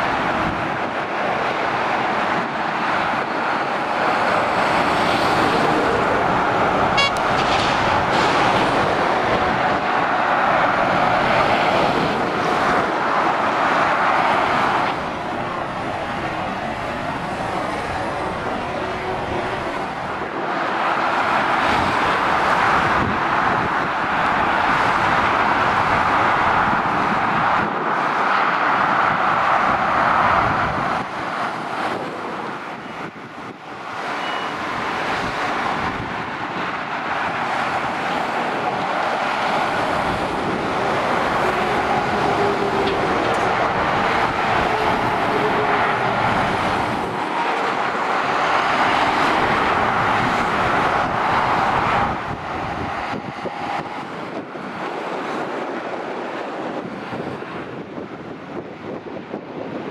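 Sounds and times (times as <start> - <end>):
motorway traffic passing: 0.0 - 59.9.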